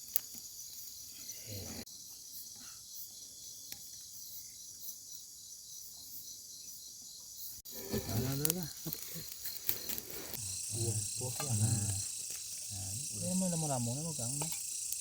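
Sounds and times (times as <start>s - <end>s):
crickets and insects chirring: 0.0s - 15.0s.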